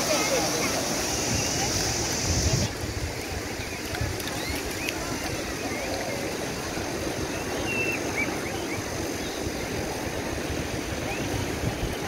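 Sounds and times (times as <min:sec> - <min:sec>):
waves rushing: 0:00.0 - 0:12.0
wind buffeting microphone: 0:00.8 - 0:08.2, 0:08.8 - 0:12.0.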